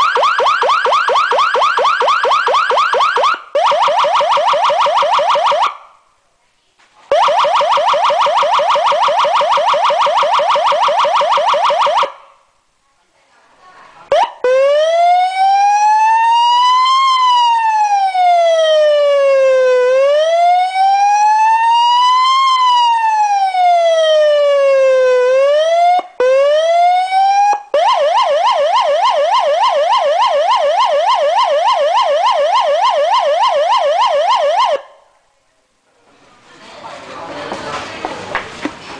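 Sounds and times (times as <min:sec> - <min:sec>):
emergency vehicle siren: 0:00.0 - 0:05.9, 0:07.1 - 0:12.2, 0:14.1 - 0:35.0.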